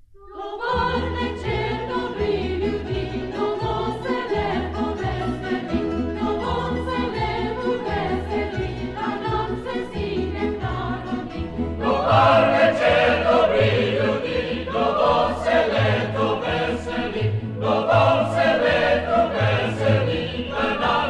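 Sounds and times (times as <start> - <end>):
choir singing: 0.2 - 21.0.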